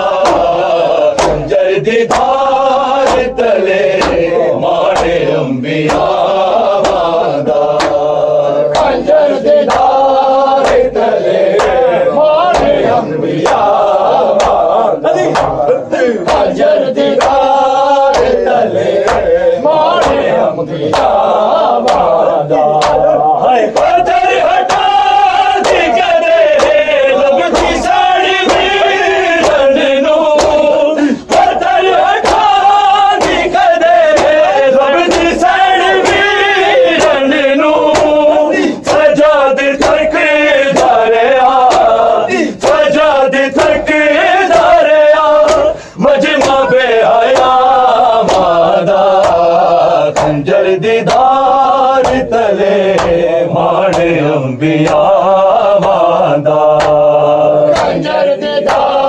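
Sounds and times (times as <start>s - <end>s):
men chanting a lament: 0.0s - 59.0s
rhythmic chest-beating: 0.0s - 59.0s.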